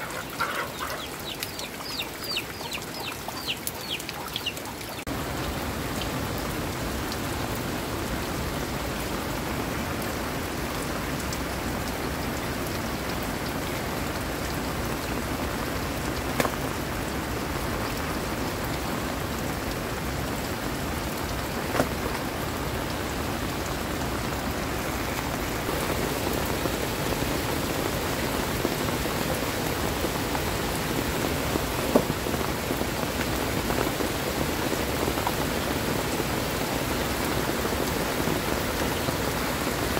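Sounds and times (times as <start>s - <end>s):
heavy rain on thatched roof: 0.0s - 39.9s.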